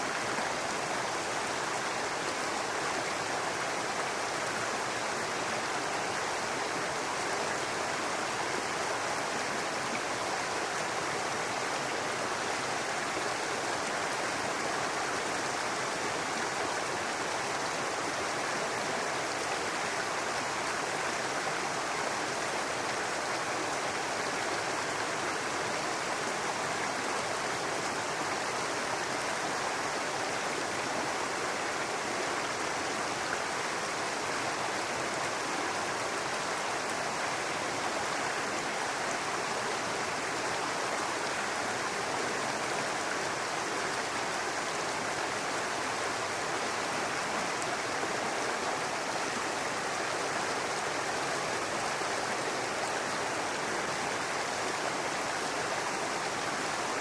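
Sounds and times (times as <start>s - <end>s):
brook babbling over rocks: 0.0s - 57.0s.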